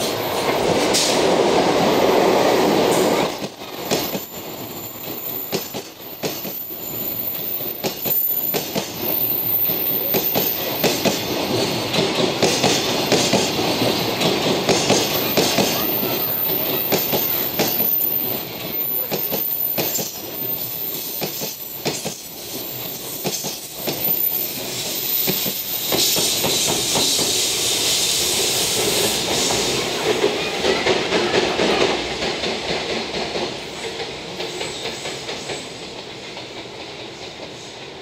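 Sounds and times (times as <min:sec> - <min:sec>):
clickety-clack of train wheels: 0:00.0 - 0:38.0.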